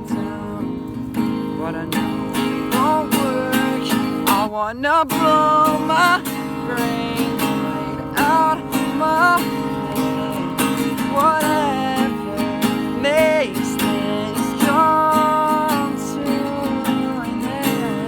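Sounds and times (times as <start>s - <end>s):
acoustic guitar strumming: 0.0s - 18.0s
person singing: 1.6s - 18.0s.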